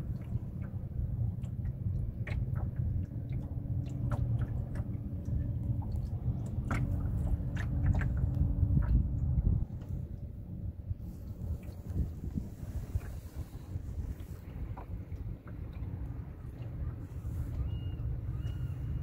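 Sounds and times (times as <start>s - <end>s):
steady low rumble: 0.0s - 19.0s
water lapping against boat hull: 0.0s - 19.0s.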